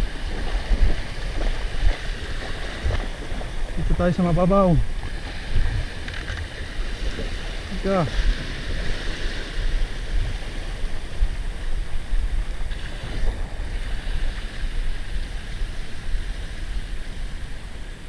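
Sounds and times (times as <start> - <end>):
small waves washing on shore: 0.0 - 18.0
wind buffeting microphone: 0.0 - 18.0.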